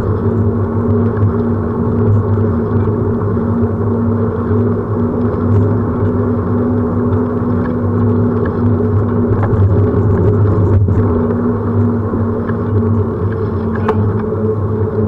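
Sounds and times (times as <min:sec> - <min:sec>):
constant low hum: 0:00.0 - 0:15.0
wheels rolling on asphalt: 0:00.0 - 0:15.0.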